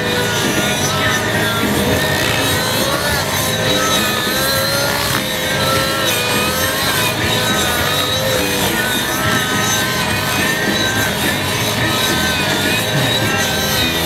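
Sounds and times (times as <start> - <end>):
model plane engine wavering: 0.0 - 14.0.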